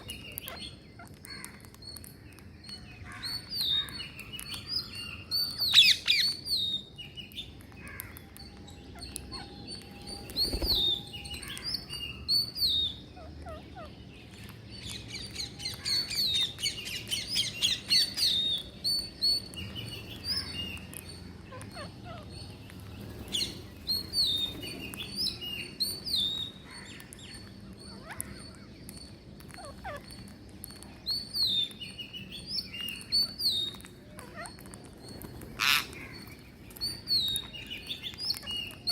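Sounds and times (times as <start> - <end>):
parrots chirping and squawking: 0.0 - 38.9.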